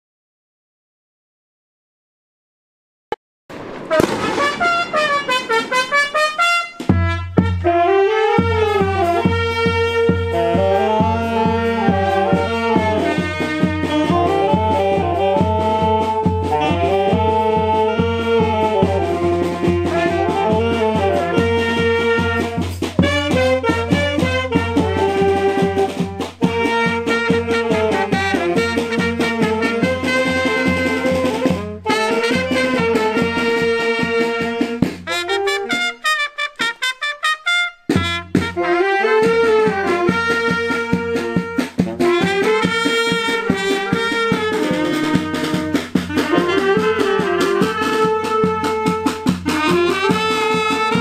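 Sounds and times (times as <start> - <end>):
steady drum beat: 3.5 - 51.0
street brass band playing: 3.5 - 51.0.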